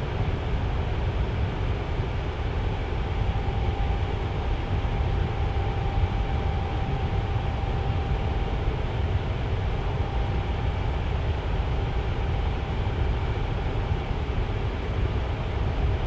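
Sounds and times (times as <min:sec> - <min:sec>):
tower fan air rush: 0:00.0 - 0:16.0
faint steady tone: 0:02.1 - 0:16.0.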